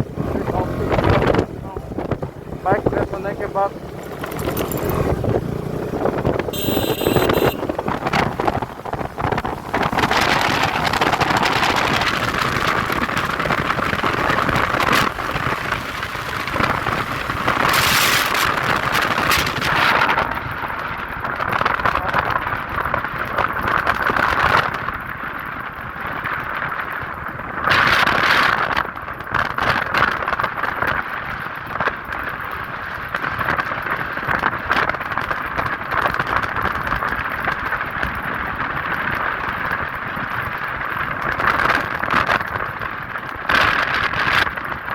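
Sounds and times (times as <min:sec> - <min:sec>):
motorcycle engine running: 0:00.0 - 0:44.9
wind rushing over microphone: 0:00.0 - 0:44.9.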